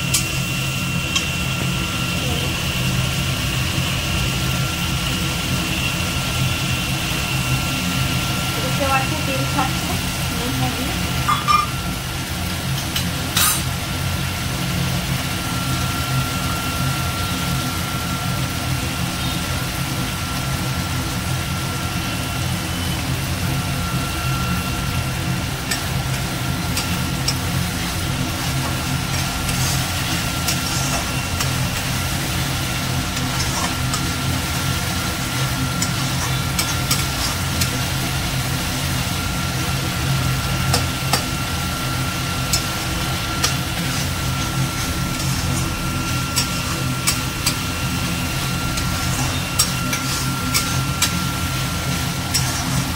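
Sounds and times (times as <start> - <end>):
low mechanical hum: 0.0 - 52.9
spice paste sizzling in oil: 0.0 - 52.9
thin steady whine: 0.0 - 52.9.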